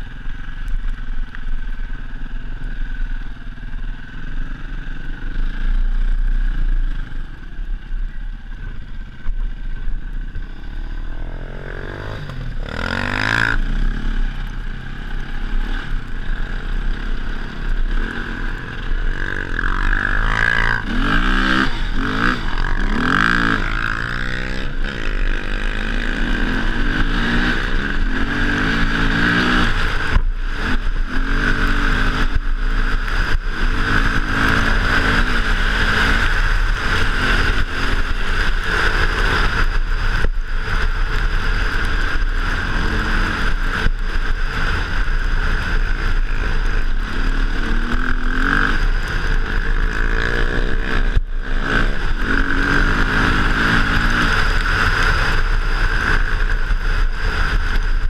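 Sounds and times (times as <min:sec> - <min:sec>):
dirt bike engine revving: 0:09.0 - 0:58.0.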